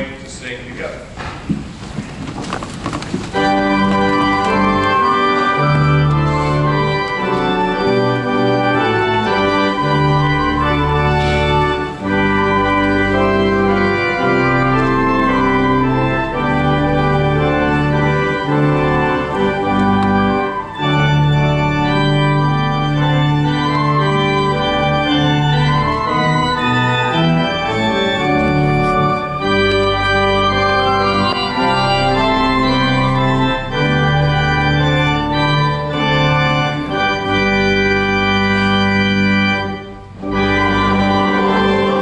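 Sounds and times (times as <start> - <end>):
church organ playing hymn: 0.0 - 1.2, 2.2 - 42.0.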